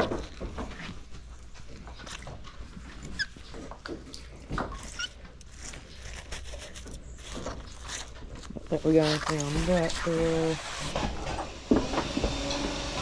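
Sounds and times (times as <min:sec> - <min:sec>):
rope hauled over wooden dock: 0:00.0 - 0:11.3.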